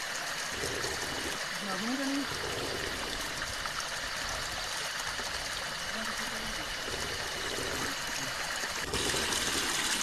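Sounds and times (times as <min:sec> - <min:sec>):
water trickling down rocks: 0:00.0 - 0:10.0.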